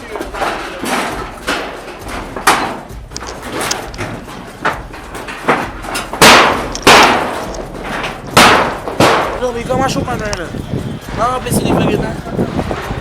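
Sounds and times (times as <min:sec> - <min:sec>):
sharp bangs: 0:00.0 - 0:13.0.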